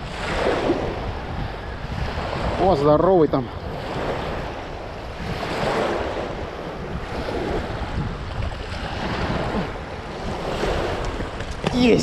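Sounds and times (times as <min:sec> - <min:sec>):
waves washing: 0:00.0 - 0:12.0
wind rumbling on microphone: 0:00.0 - 0:12.0.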